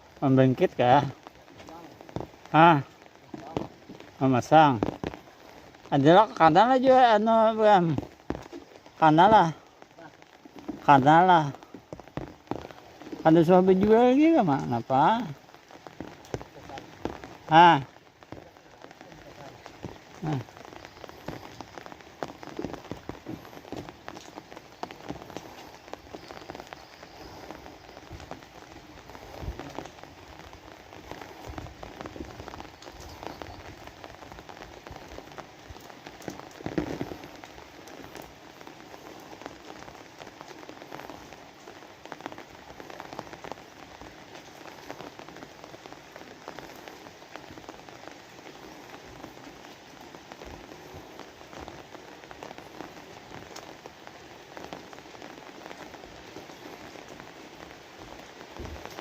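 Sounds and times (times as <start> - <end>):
steady rain falling: 0.0 - 59.0
water drips: 0.0 - 59.0.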